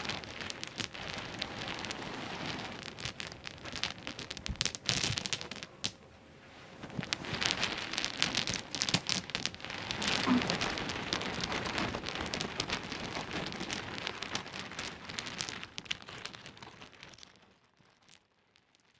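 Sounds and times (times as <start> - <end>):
pebbles clicking and rattling: 0.0 - 6.0, 6.8 - 18.9.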